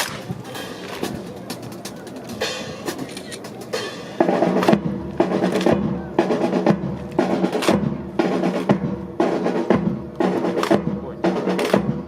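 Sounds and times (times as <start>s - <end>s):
snare and bass drums: 0.0s - 12.0s.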